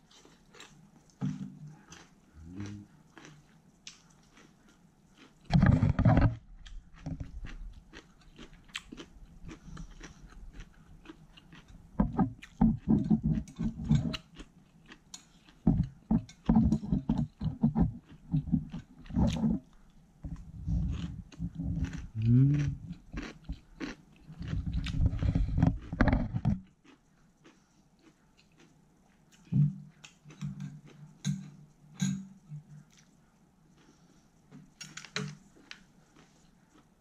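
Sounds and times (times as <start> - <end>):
wet chewing and crunching: 0.0 - 37.0.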